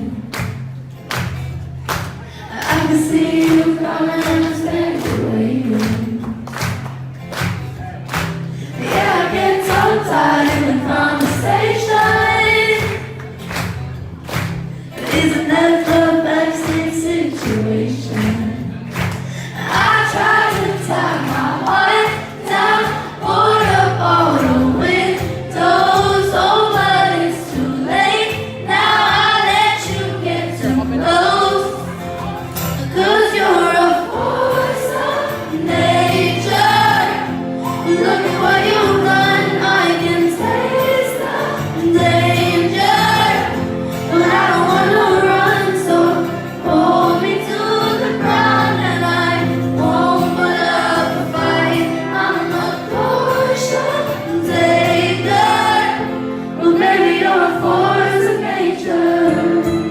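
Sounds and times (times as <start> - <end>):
live pop band with bass: 0.0 - 59.9
woman singing: 2.5 - 6.5, 8.8 - 13.2, 15.0 - 18.8, 19.5 - 32.0, 32.8 - 59.9.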